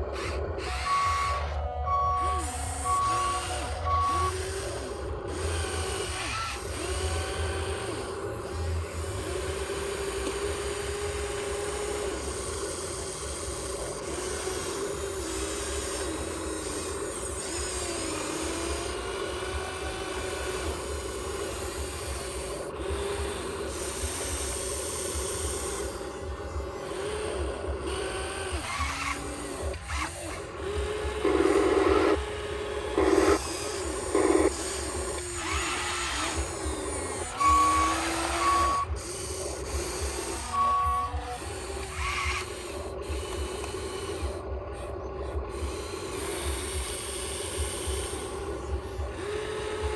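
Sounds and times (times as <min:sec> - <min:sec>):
grinding bursts: 0:00.0 - 0:49.9
small electric motors whining: 0:00.0 - 0:49.9.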